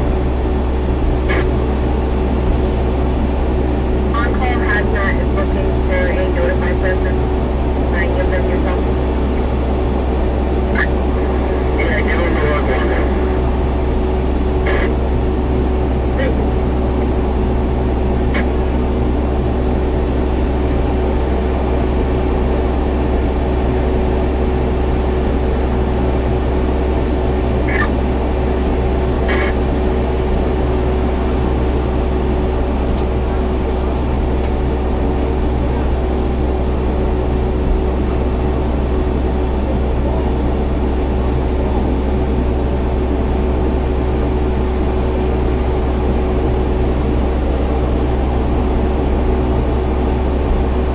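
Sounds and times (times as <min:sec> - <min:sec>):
truck engine drone: 0:00.0 - 0:50.9.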